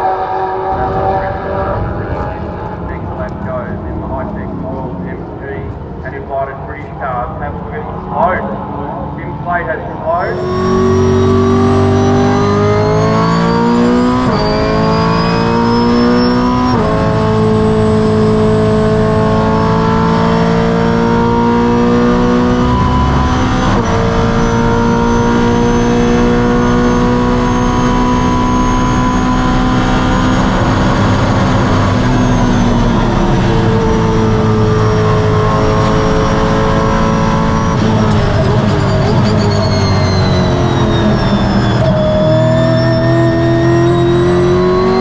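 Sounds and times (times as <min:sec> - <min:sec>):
racing car engine at full throttle: 0:00.0 - 0:45.0.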